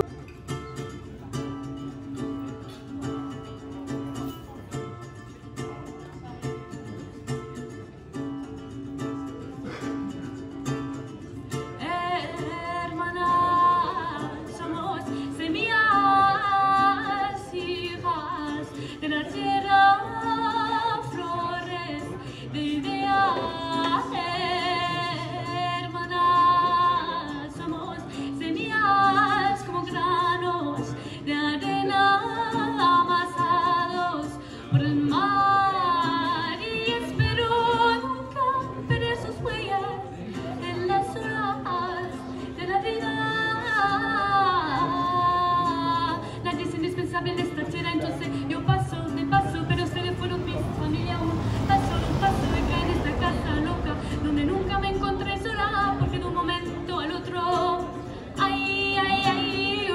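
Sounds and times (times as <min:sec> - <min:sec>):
ukulele: 0:00.0 - 0:59.9
woman singing into a microphone: 0:10.0 - 0:59.9.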